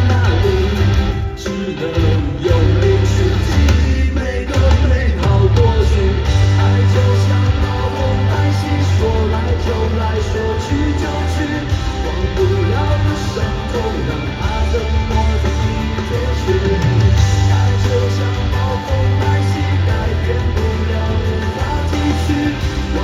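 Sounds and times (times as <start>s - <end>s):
live rock band music: 0.0s - 23.0s.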